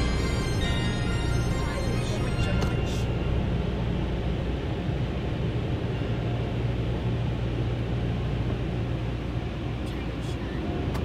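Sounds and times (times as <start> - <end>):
car wash rumble and hum: 0.0 - 11.0.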